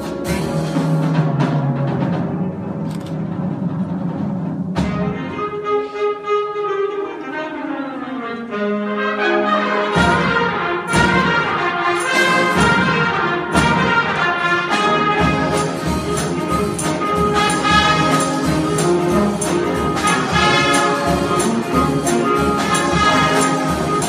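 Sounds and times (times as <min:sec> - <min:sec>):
concert wind band playing: 0:00.0 - 0:24.0.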